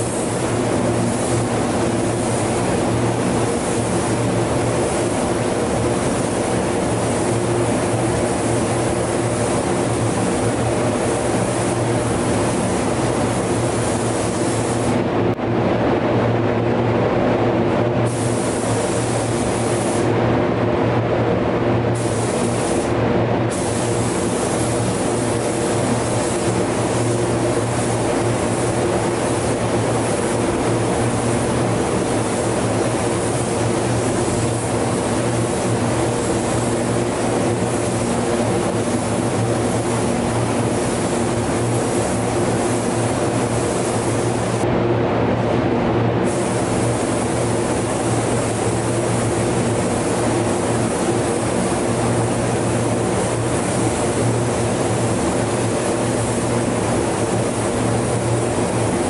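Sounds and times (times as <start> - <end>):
paint spray gun hissing: 0.0 - 15.0, 18.1 - 20.1, 22.0 - 44.6, 46.2 - 59.0.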